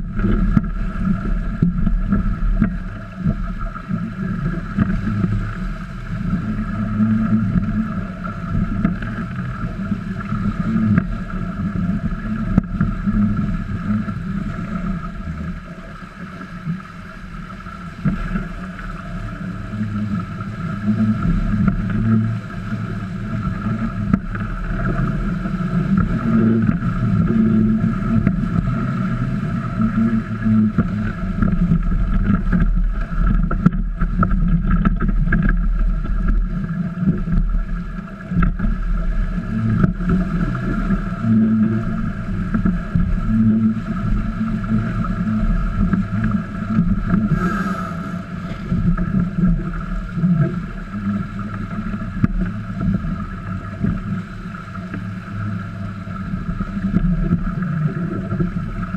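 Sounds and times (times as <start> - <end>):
water slapping along boat hull: 0.0 - 58.9.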